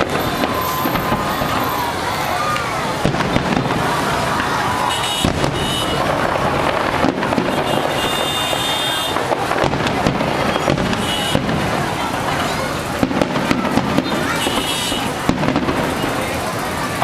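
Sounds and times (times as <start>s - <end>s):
firework whistles: 0.0s - 9.7s, 10.3s - 11.9s, 13.1s - 16.8s
fireworks bangs and crackling: 0.0s - 17.0s.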